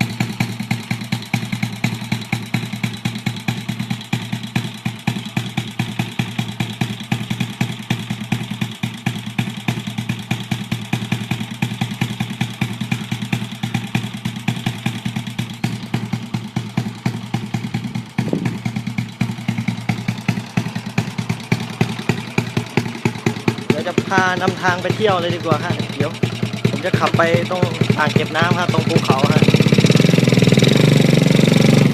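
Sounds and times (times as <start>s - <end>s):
minibike engine idling: 0.0s - 31.9s.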